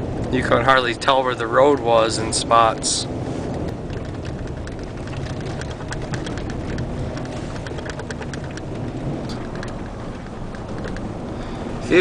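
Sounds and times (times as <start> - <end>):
sharp ticks and clicks: 0.0 - 11.2
vehicle rumble: 0.0 - 12.0.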